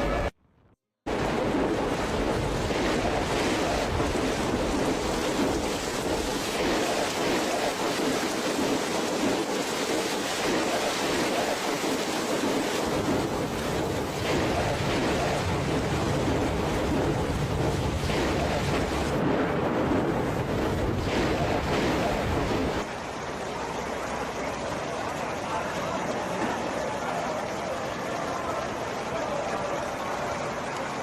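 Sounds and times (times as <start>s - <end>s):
steady rushing noise: 1.1s - 31.0s.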